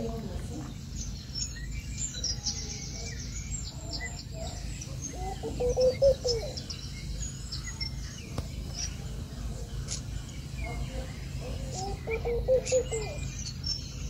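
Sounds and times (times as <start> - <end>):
lower bird call: 1.4 - 9.0, 9.9 - 14.0.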